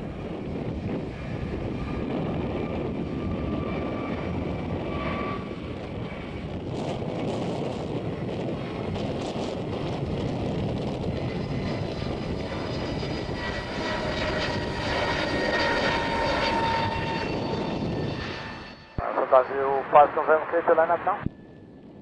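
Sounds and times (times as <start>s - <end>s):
jet engine rush: 0.0s - 22.0s
jet engine whine: 0.0s - 22.0s.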